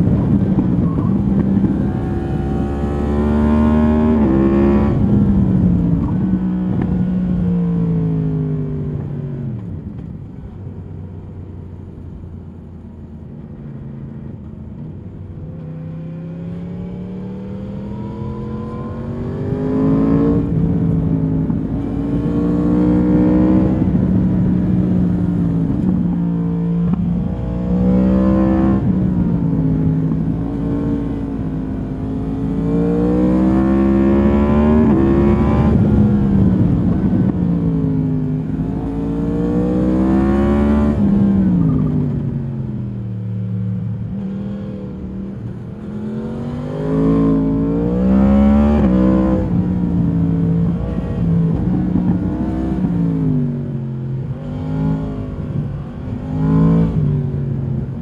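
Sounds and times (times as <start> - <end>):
motorcycle engine revving: 0.0 - 8.7, 15.6 - 58.0.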